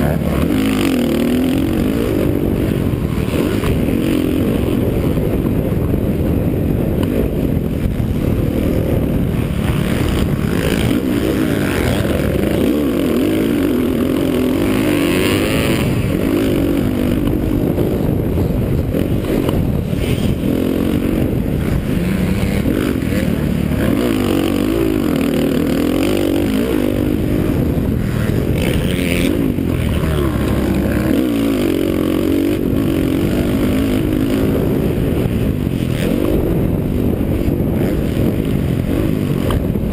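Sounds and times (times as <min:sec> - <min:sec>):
dirt bike engine revving: 0:00.0 - 0:39.9
wind rushing over microphone: 0:00.0 - 0:39.9.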